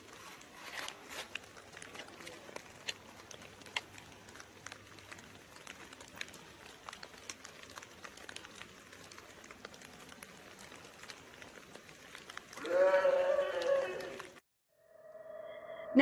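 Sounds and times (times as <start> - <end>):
sharp clicks and crackles: 0.0 - 14.4.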